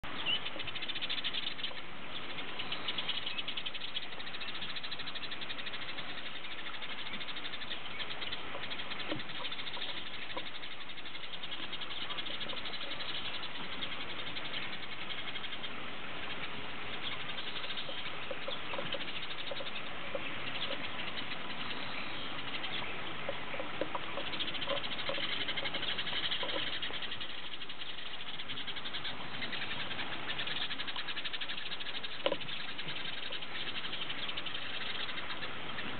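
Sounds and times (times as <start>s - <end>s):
sparrows chirping: 0.0s - 35.9s.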